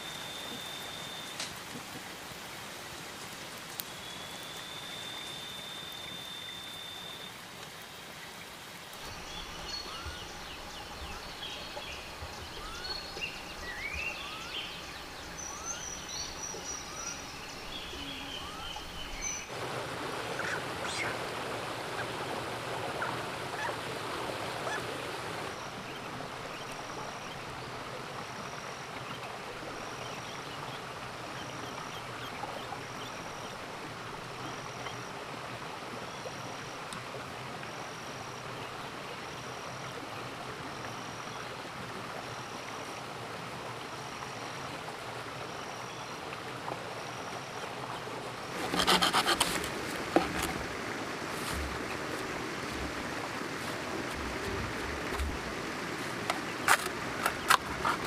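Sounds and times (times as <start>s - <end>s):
steady outdoor hiss: 0.0s - 58.0s.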